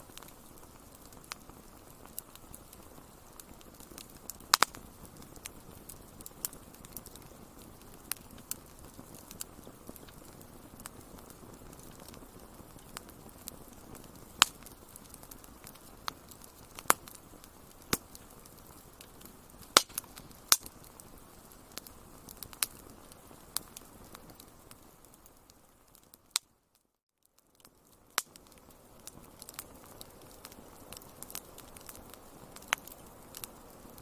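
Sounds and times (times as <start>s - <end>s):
fire hissing: 0.0s - 26.1s, 28.1s - 34.0s
wood fire crackling: 0.0s - 34.0s.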